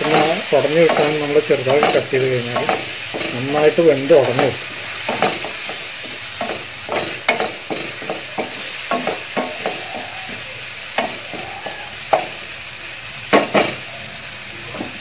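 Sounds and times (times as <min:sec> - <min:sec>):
spatula scraping a pan: 0:00.0 - 0:12.6
food sizzling in oil: 0:00.0 - 0:15.0.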